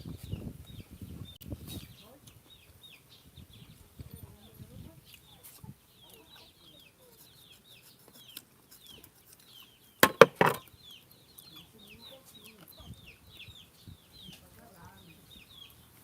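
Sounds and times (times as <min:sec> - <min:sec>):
chickens peeping: 0:00.0 - 0:16.0.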